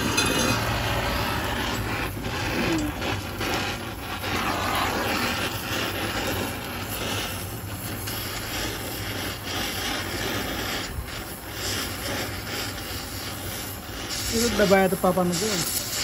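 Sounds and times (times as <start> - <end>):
welding torch flame hissing: 0.0 - 16.0.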